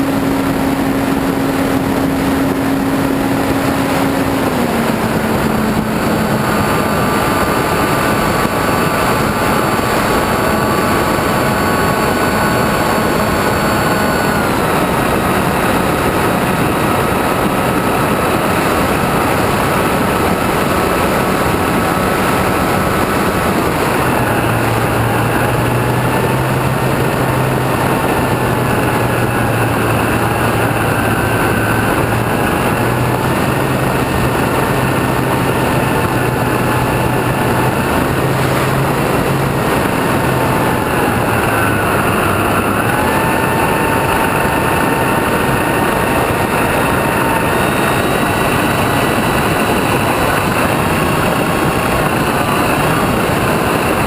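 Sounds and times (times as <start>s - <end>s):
electric motor whine: 0.0s - 54.0s
wind and propeller rush: 0.0s - 54.0s.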